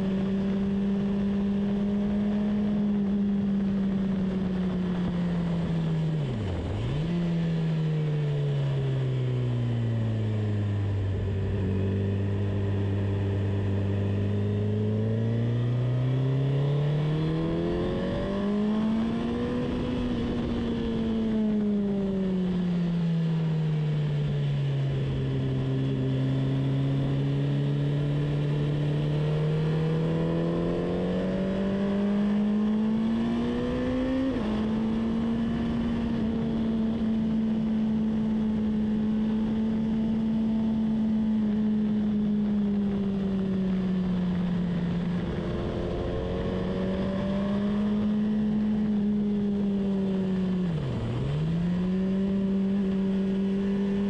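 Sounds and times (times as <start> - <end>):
race car engine at speed: 0.0 - 54.0.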